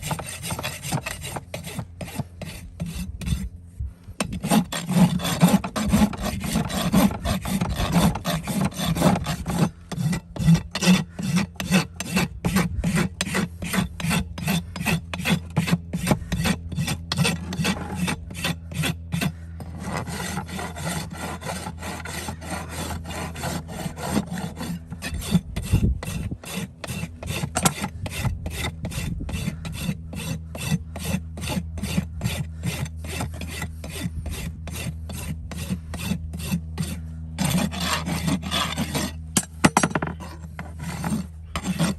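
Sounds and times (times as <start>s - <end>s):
rasp filing hoof: 0.0s - 41.9s.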